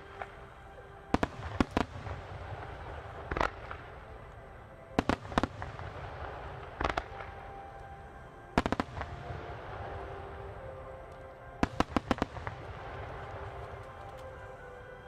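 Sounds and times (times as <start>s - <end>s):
fireworks bangs: 0.0s - 8.0s, 8.6s - 14.5s
faint music: 0.0s - 15.0s.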